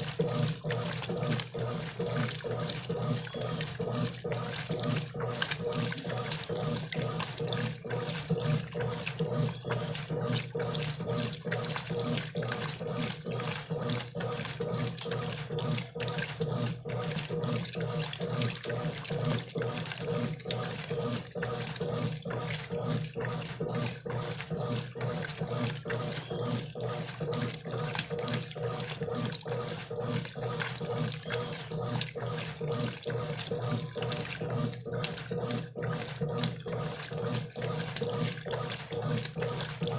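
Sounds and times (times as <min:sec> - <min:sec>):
washing machine hum: 0:00.0 - 0:39.9
water splashing in washing machine: 0:00.0 - 0:39.9.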